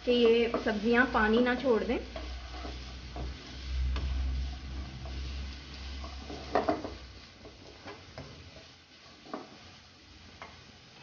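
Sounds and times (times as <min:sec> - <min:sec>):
faint sizzle: 0:00.0 - 0:11.0
spatula stirring vegetables in pan: 0:00.0 - 0:11.0.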